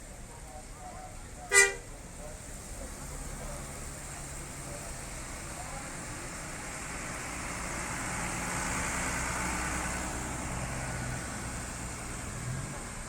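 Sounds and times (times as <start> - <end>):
bus engine running: 0.0 - 13.0
road noise: 0.0 - 13.0.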